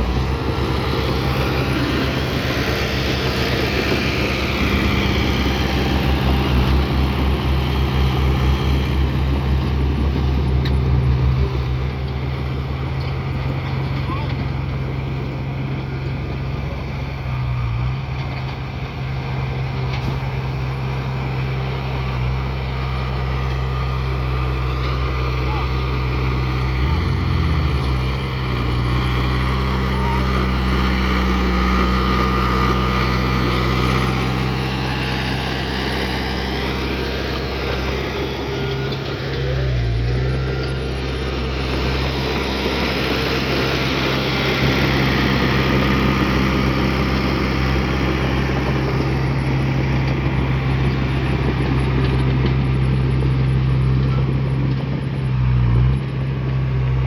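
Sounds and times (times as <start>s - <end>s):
heavy diesel machine engine running: 0.0s - 57.0s.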